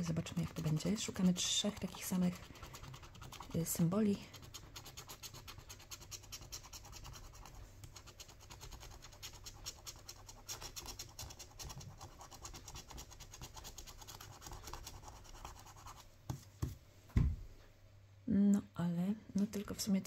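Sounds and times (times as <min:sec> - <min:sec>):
scratching a scratch card: 0:00.0 - 0:16.1.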